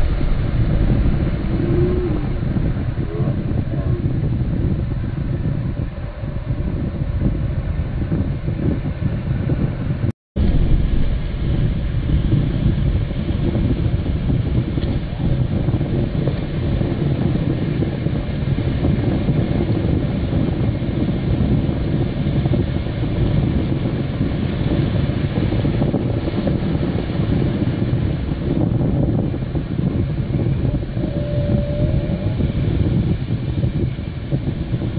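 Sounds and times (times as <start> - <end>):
breaking surf: 0.0 - 34.9
wind buffeting microphone: 0.0 - 34.9.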